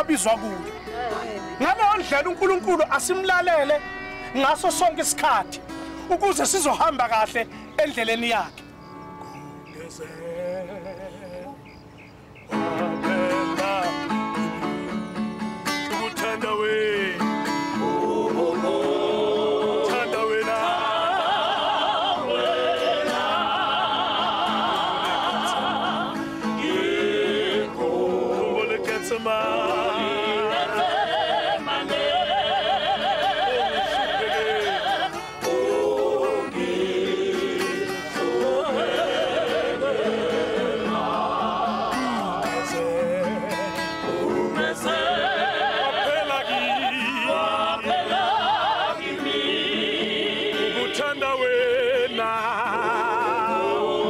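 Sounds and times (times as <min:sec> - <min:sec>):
acoustic guitar: 0:00.0 - 0:54.0
group singing a slow hymn: 0:09.7 - 0:54.0.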